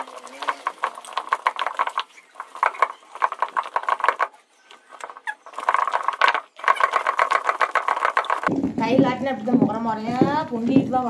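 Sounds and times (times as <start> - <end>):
stone grinder rolling and scraping: 0.0 - 11.0.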